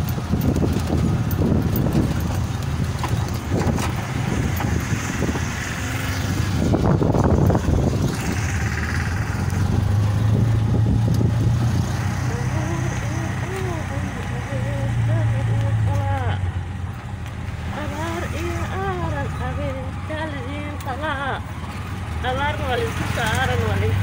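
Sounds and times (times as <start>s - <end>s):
auto-rickshaw engine running: 0.0s - 24.0s
road noise: 0.0s - 24.0s.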